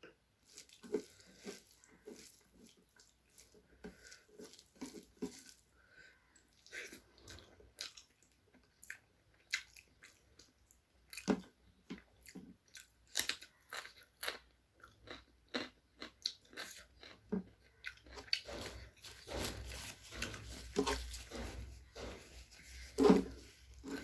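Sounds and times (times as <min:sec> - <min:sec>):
close chewing with mouth smacks: 0:00.0 - 0:24.0.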